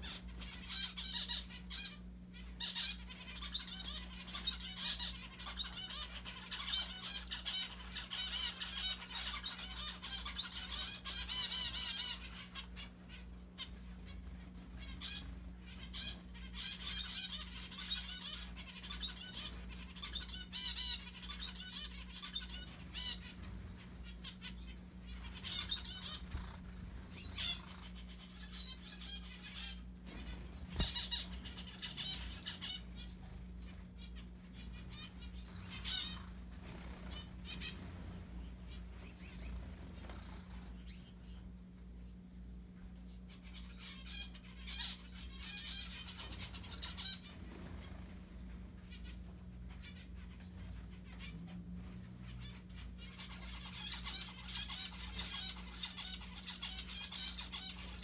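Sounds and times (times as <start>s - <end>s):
finches chirping rapidly: 0.0s - 41.6s, 43.0s - 58.0s.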